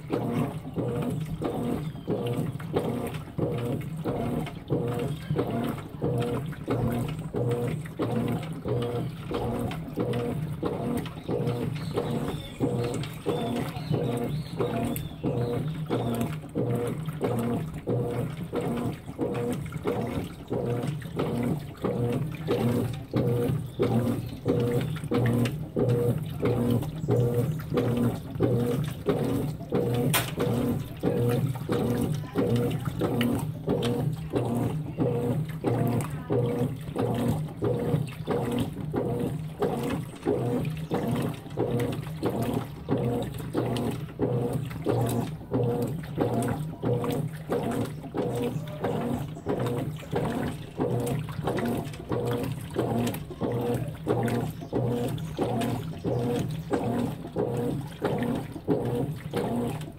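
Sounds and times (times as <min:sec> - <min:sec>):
motor hum: 0:00.0 - 0:59.9
water sloshing in washing machine: 0:00.0 - 0:59.9.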